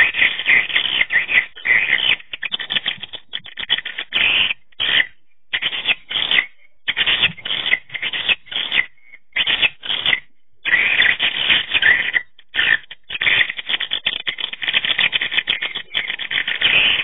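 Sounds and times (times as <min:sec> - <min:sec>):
swiftlets twittering chirps: 0:00.0 - 0:17.0.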